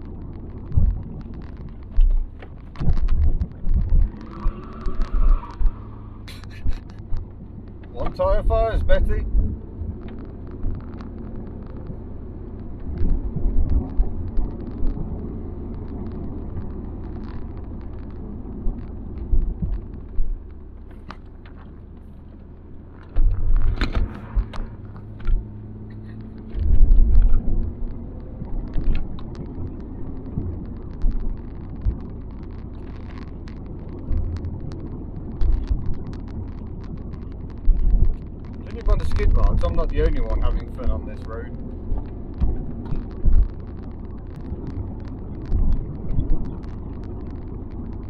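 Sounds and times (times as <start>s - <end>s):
engine and tyre rumble: 0.0s - 48.0s
light ticks: 0.0s - 48.0s.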